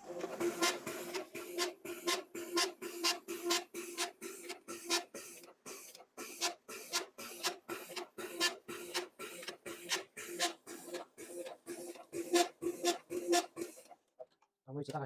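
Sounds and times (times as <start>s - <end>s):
copier motor hum: 0.0s - 5.6s, 6.4s - 13.8s
sharp rasping paper feed: 0.0s - 14.0s.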